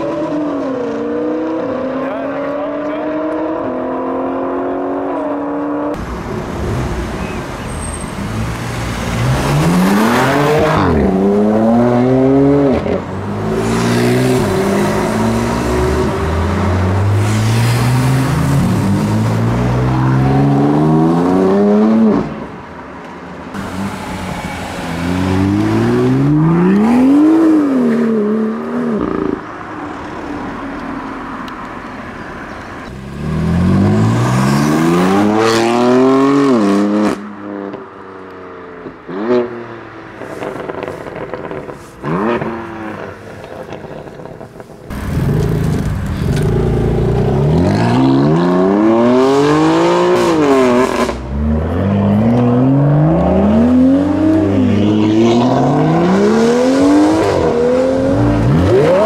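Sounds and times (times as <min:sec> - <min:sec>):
car engines accelerating hard: 0:00.0 - 0:22.6, 0:23.5 - 0:37.8, 0:40.3 - 0:59.0.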